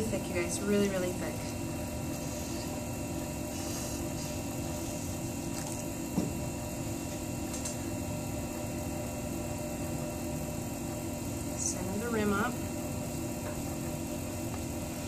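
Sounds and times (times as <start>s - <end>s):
potter's wheel motor hum: 0.0s - 15.0s.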